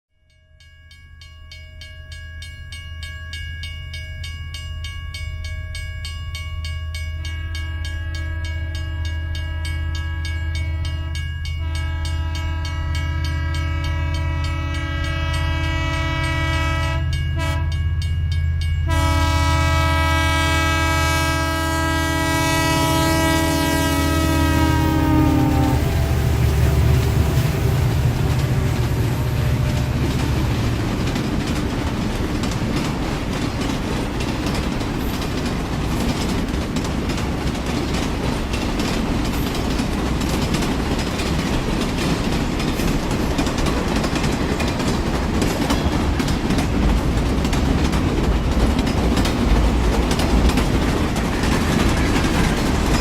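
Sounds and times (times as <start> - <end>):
train engine rumble: 3.9 - 53.0.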